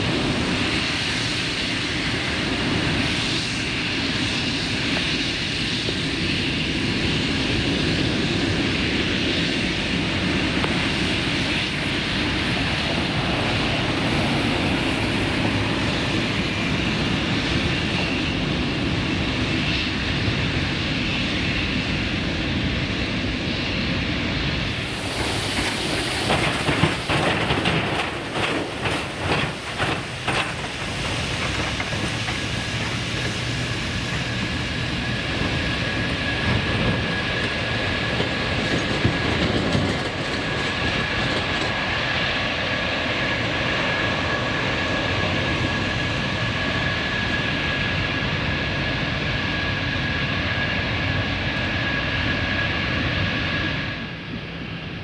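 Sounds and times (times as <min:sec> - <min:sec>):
jet engines rushing and whining: 0:00.0 - 0:55.0.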